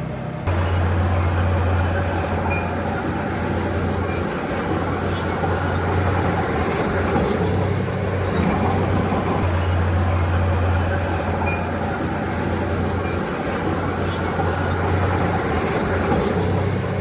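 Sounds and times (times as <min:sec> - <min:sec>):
diesel engine humming: 0:00.0 - 0:17.0
short high squeaks: 0:00.5 - 0:16.6.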